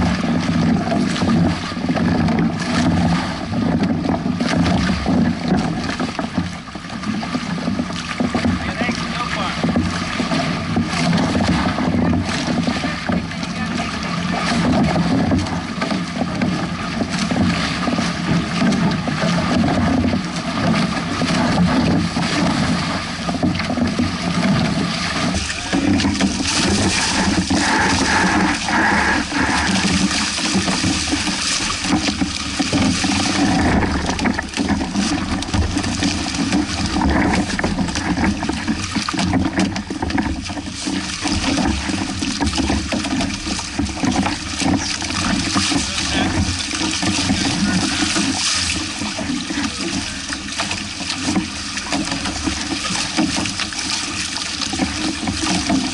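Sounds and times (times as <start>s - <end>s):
water splashing against hulls: 0.0s - 55.9s.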